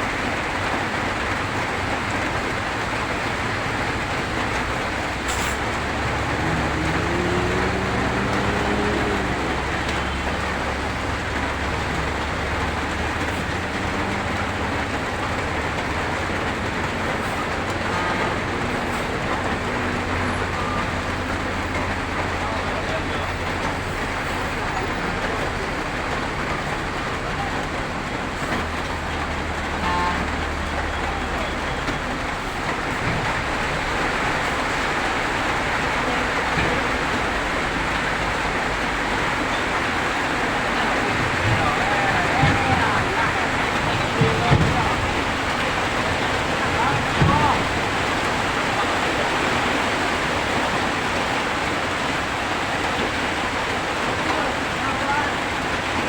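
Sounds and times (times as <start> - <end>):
heavy truck engine running low: 0.0 - 56.0
rain hissing on wet road: 0.0 - 56.0.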